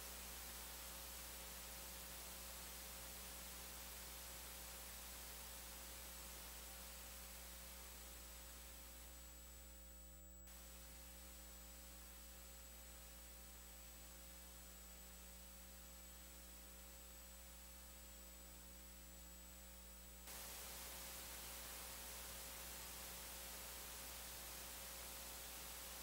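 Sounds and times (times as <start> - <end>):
electrical hum and hiss: 0.0 - 26.0.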